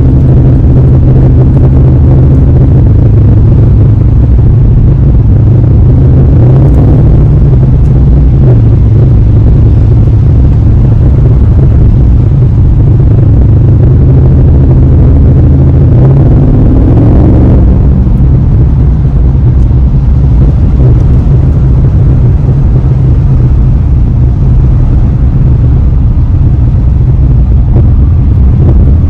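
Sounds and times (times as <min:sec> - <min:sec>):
car exhaust deep drone: 0:00.0 - 0:29.0.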